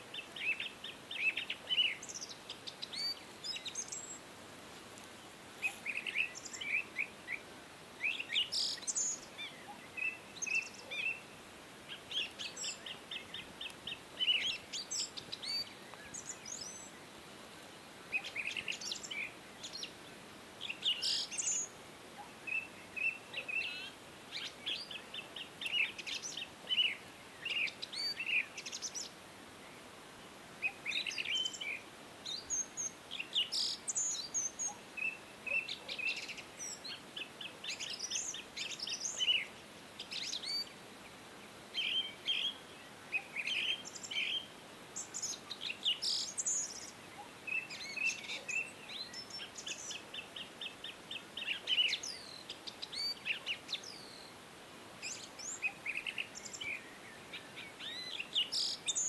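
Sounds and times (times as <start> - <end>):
faint steady hiss: 0.0 - 59.0
birds chirping and trilling: 0.1 - 4.2, 5.1 - 29.9, 30.6 - 54.4, 55.0 - 59.0.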